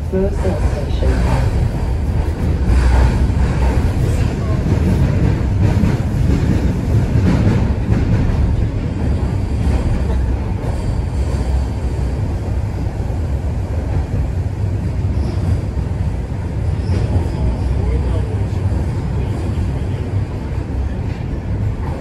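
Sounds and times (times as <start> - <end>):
subway train rumble: 0.0 - 22.0.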